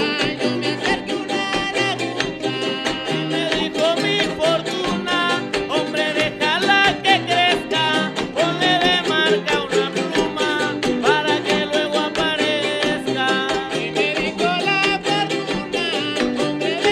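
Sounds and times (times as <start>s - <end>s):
person singing: 0.0s - 16.9s
strummed string instruments: 0.0s - 16.9s.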